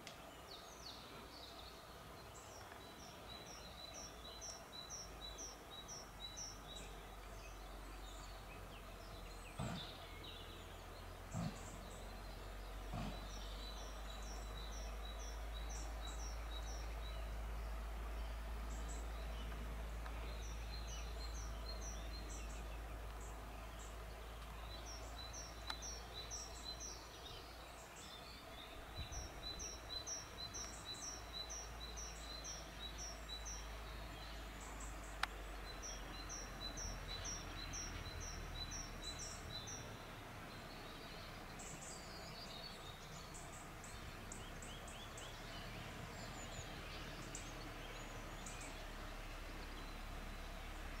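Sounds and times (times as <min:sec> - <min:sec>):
faint bird chirps: 0:00.0 - 0:51.0
low steady rumble: 0:00.2 - 0:51.0.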